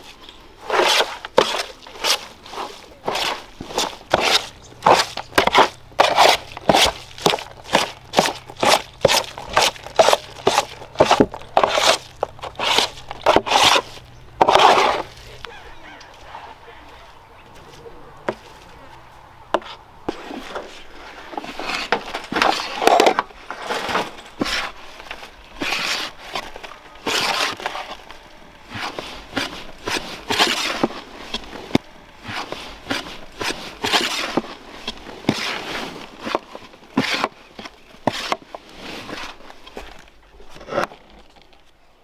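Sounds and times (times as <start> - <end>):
utensil scraping cooking pan: 0.6 - 15.5, 19.5 - 41.0.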